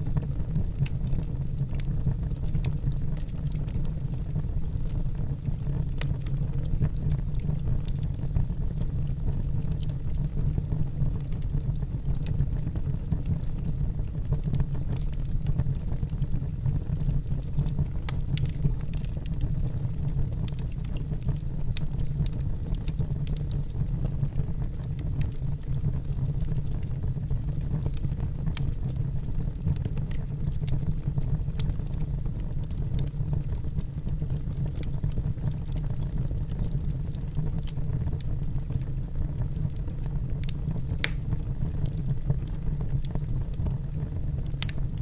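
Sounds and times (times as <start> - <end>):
low fire rumble: 0.0 - 45.0
campfire crackling and popping: 0.1 - 45.0.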